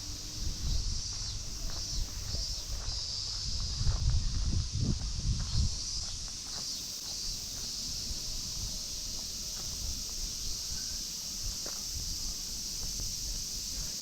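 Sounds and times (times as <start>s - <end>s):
cicadas droning: 0.0s - 14.0s
soft footsteps: 0.0s - 14.0s.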